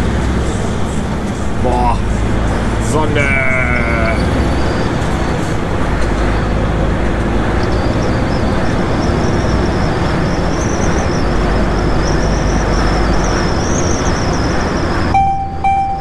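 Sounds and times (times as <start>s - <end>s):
diesel truck engine drone: 0.0s - 16.0s.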